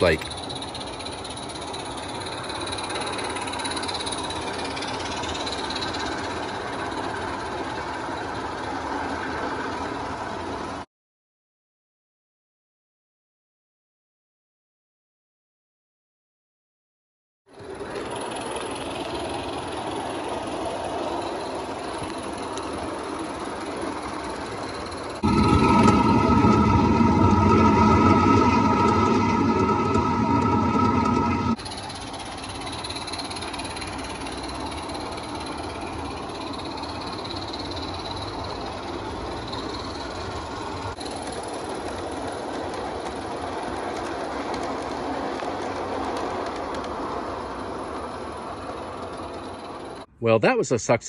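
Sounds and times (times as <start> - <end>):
cars clicking on track: 0.0 - 10.8, 17.5 - 50.1
steam locomotive chuffing: 0.0 - 10.8, 17.5 - 50.1.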